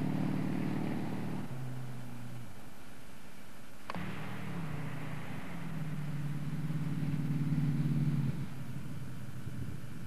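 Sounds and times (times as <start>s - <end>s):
car engine revving under load: 0.0s - 2.9s, 3.8s - 10.0s.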